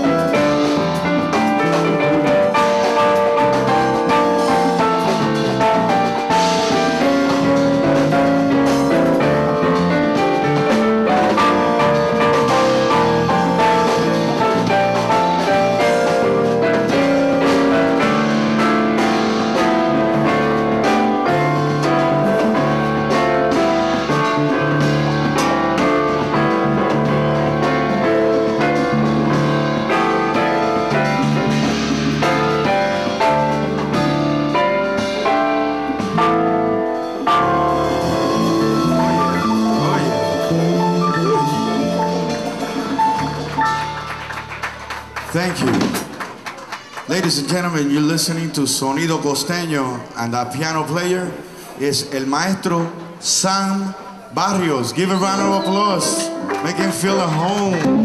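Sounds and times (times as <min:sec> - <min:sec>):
electronic keyboard piano lead: 0:00.0 - 0:58.0
live latin band playing: 0:00.0 - 0:58.0.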